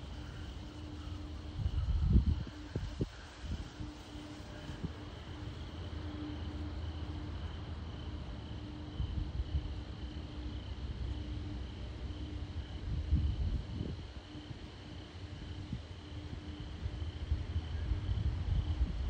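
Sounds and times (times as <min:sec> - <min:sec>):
crickets chirping: 0:00.0 - 0:19.0
wind rumble on microphone: 0:00.0 - 0:19.0.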